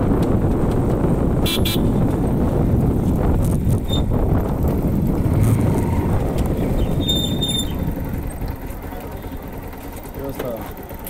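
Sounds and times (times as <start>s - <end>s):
wind buffeting microphone: 0.0s - 10.2s
road noise: 0.0s - 11.0s.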